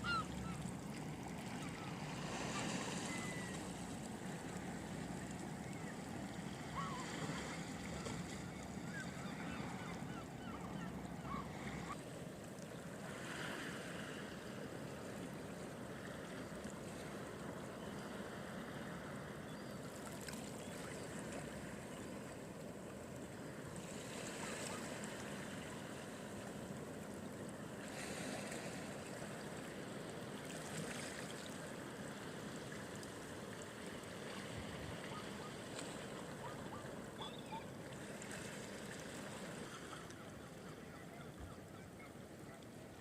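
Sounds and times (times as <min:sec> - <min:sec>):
sea waves washing ashore: 0:00.0 - 0:41.1.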